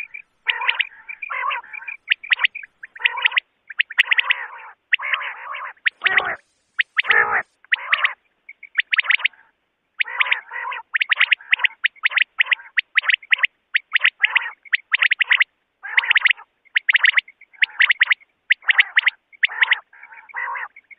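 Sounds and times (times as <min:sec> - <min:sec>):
lower noisy bird notes: 0:00.0 - 0:20.9
quail whistled calls: 0:00.0 - 0:20.9.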